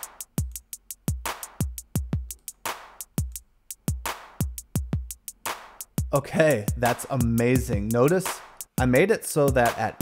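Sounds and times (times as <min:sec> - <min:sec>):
hi-hat ticks: 0:00.0 - 0:10.0.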